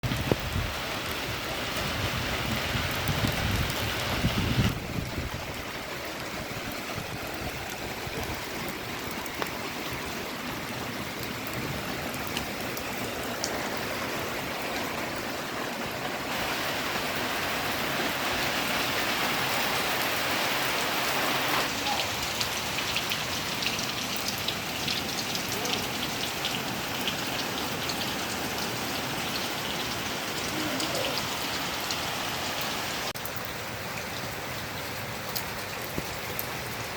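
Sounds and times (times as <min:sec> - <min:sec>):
heavy rain hissing: 0:00.0 - 0:36.9
raindrops splashing: 0:00.0 - 0:36.9.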